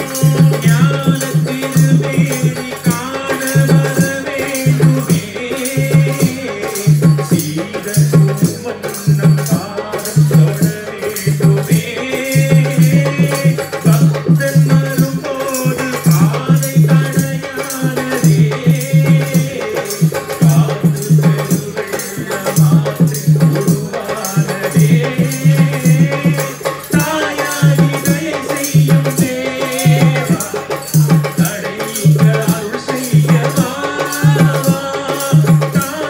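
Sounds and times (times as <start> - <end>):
men singing devotional song: 0.0 - 36.0
percussion beat: 0.0 - 36.0.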